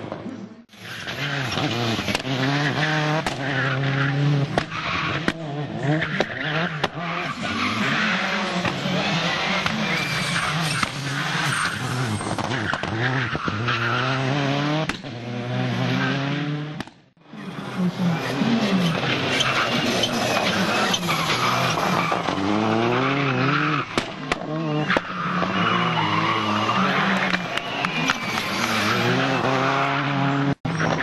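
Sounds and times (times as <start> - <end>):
tyres skidding on tarmac: 0.7 - 16.2, 17.2 - 31.0
rally car engine revving: 0.8 - 31.0.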